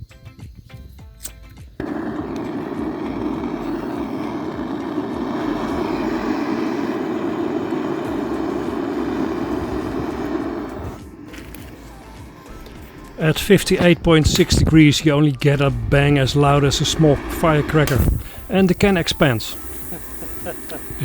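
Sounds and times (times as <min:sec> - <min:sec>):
heating device rushing: 0:01.8 - 0:21.0.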